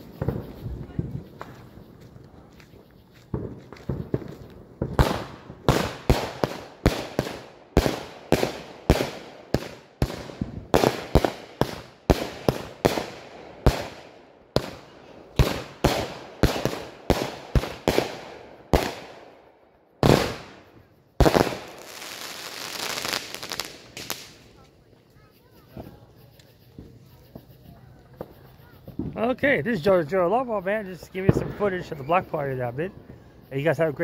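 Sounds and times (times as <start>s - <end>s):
fireworks bangs: 0.0s - 2.0s, 3.2s - 24.6s, 25.4s - 33.9s
fireworks crackling: 0.0s - 34.0s.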